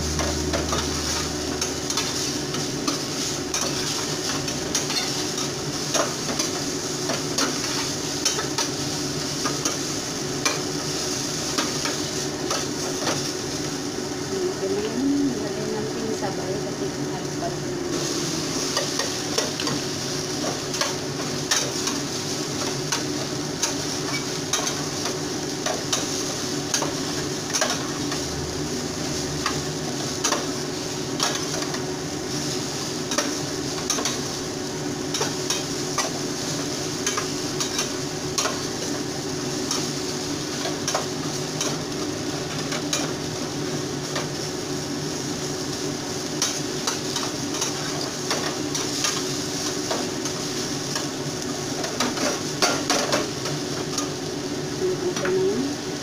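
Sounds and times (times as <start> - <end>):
vegetables sizzling in a frying pan: 0.0 - 56.0.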